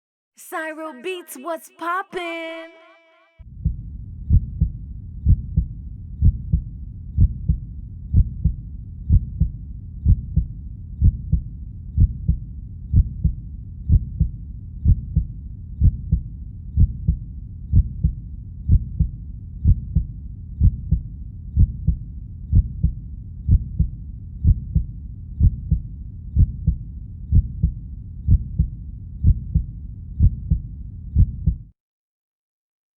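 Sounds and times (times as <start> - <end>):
constant low rumble: 3.5 - 31.5
slow heartbeat: 3.5 - 31.8.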